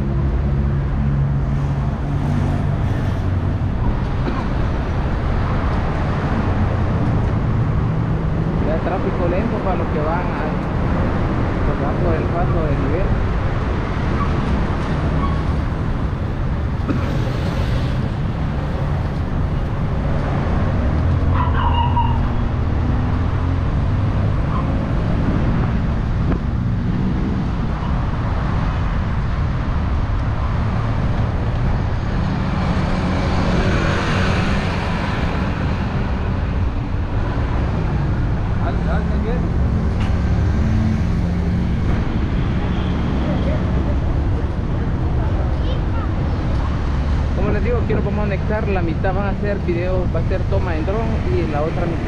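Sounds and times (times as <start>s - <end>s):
city road traffic: 0.0s - 52.0s.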